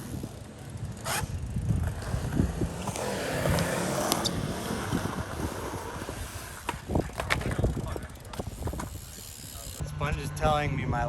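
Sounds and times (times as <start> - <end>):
bike tyres rolling on concrete: 0.0 - 9.8
wind on microphone: 0.0 - 11.0.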